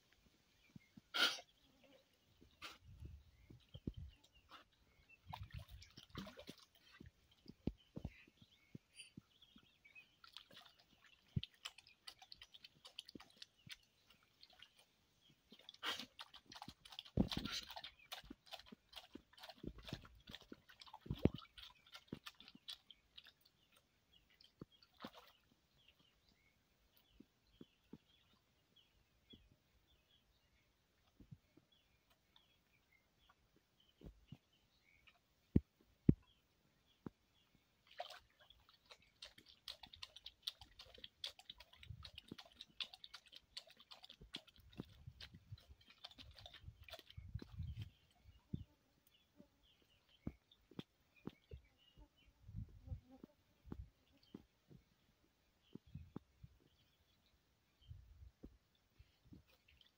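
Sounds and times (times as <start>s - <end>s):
animals splashing in water: 0.7s - 29.5s, 30.8s - 52.3s, 53.3s - 59.9s.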